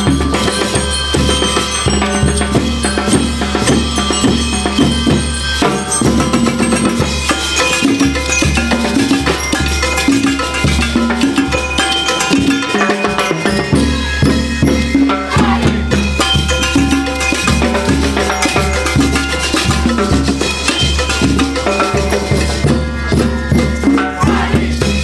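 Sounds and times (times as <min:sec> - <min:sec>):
drums and percussion beat: 0:00.0 - 0:25.0
shaker: 0:00.0 - 0:25.0.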